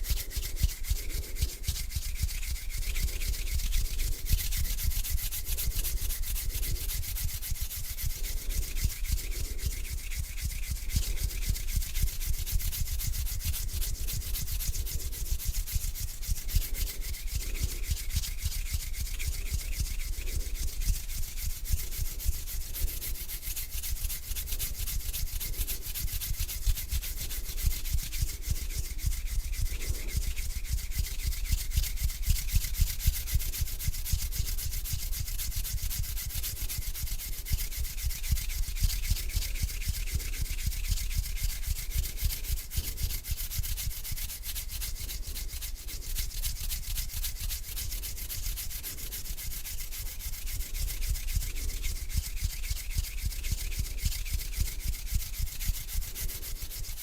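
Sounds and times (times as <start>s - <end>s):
hands rubbing together: 0.0s - 57.0s.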